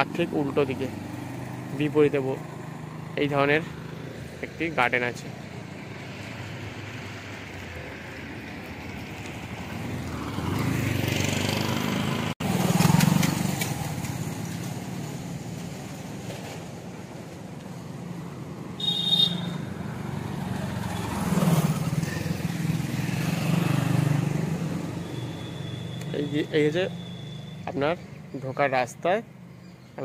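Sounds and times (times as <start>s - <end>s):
auto-rickshaw engine: 0.0s - 30.0s
road traffic passing: 0.0s - 30.0s.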